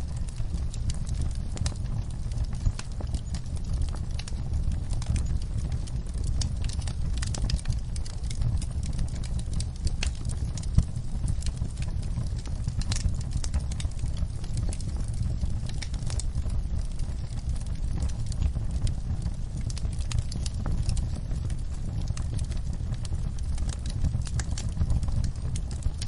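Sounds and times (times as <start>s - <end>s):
wood fire burning: 0.0s - 26.0s.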